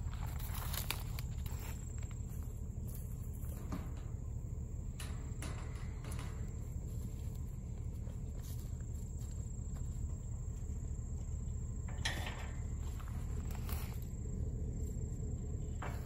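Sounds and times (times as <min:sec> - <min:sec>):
faint high insect drone: 0:00.0 - 0:16.0
steady low rumble: 0:00.0 - 0:16.0.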